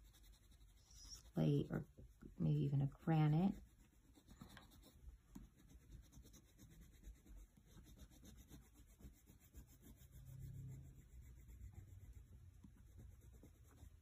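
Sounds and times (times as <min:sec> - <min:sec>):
crayon scratching on paper: 0:00.0 - 0:02.0, 0:02.6 - 0:14.0.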